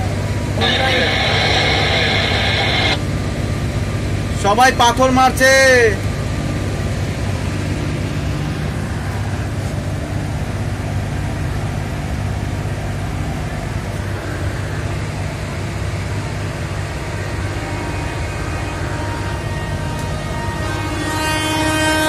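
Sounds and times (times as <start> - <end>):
train cab running hum: 0.0 - 22.0.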